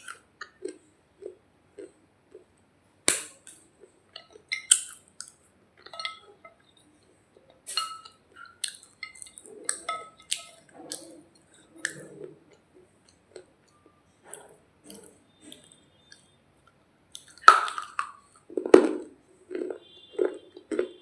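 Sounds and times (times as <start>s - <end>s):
chewing: 0.0s - 2.5s, 3.3s - 16.3s, 17.1s - 21.0s.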